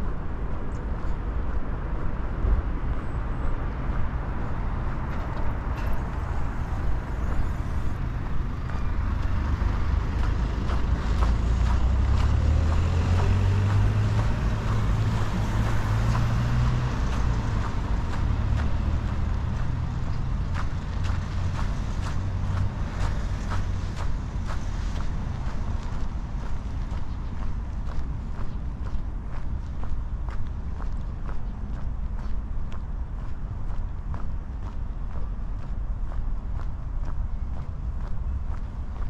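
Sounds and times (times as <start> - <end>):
large vehicle engine drone: 0.0 - 39.0
road traffic rumbling: 0.0 - 39.0.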